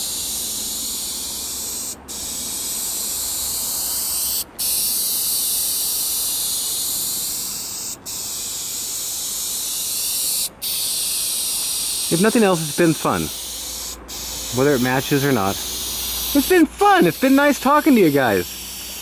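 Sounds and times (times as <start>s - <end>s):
spray paint can hissing: 0.0s - 19.0s.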